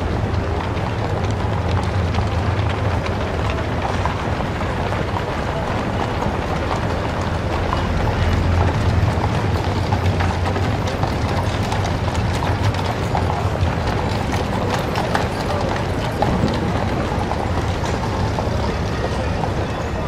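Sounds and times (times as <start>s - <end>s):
horse hooves on pavement: 0.0s - 20.0s
steady background noise: 0.0s - 20.0s.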